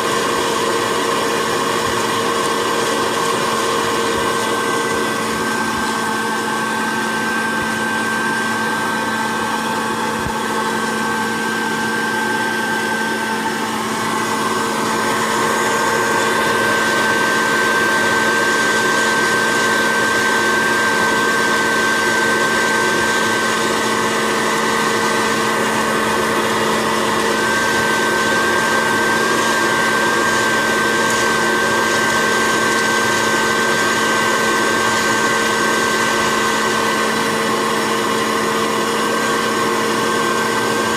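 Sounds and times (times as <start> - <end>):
popcorn popper fan whirring: 0.0 - 40.9.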